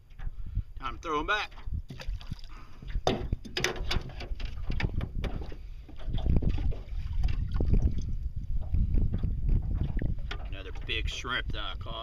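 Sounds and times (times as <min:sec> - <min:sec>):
water lapping against boat hull: 0:00.0 - 0:12.0
wind buffeting microphone: 0:00.0 - 0:12.0.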